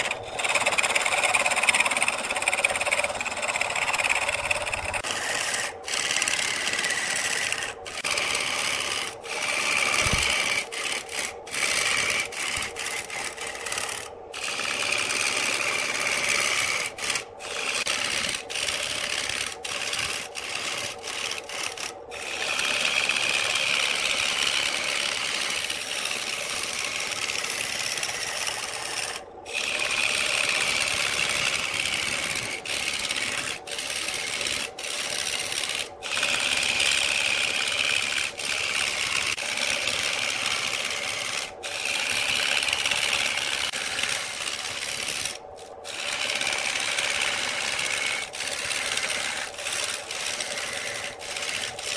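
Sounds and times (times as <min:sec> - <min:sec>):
lathe tool cutting wood: 0:00.0 - 0:51.9.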